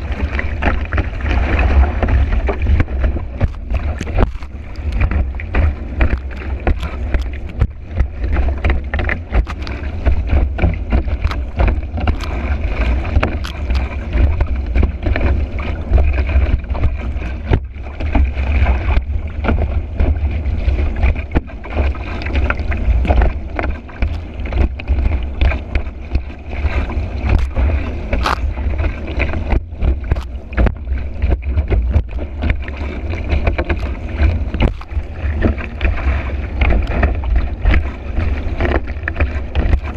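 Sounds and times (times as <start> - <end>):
board slapping on water: 0.0 - 39.9
water rushing and splashing: 0.0 - 39.9
wind rumble on microphone: 0.0 - 39.9.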